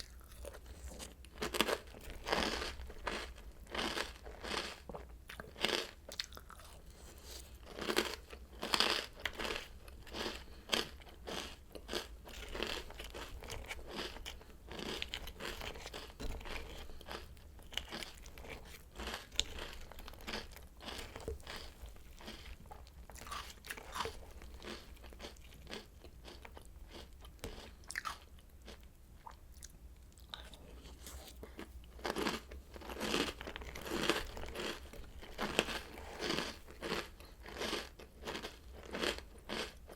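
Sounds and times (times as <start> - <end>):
person chewing crunchy cereal: 0.0 - 39.9.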